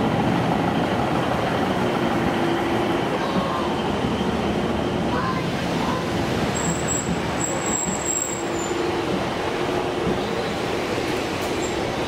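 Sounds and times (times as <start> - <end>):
diesel train engines running: 0.0 - 12.0.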